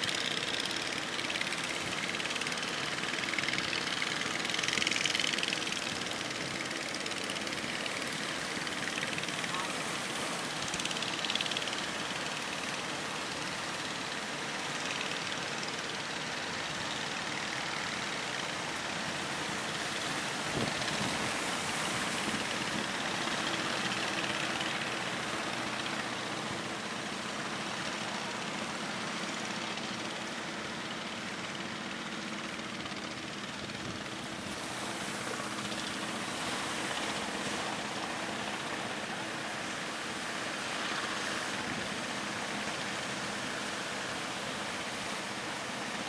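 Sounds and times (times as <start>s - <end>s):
boat motors humming: 0.0s - 46.0s.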